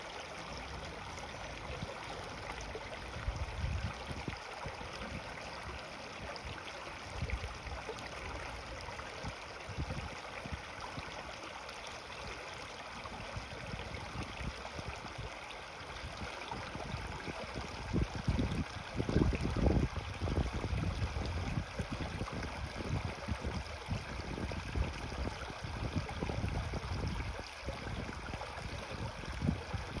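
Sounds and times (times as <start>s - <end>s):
creek water flowing: 0.0s - 30.0s.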